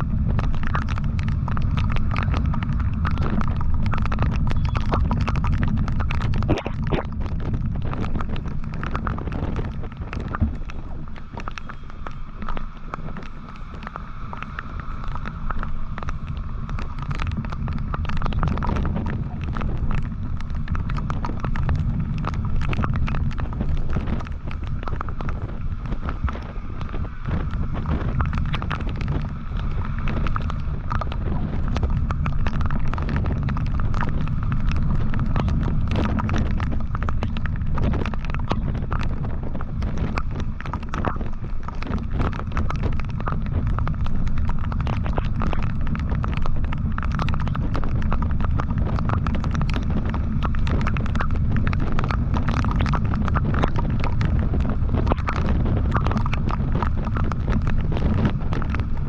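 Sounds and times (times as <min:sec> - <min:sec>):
small crackles: 0:00.0 - 0:59.0
wind buffeting microphone: 0:00.0 - 0:59.0.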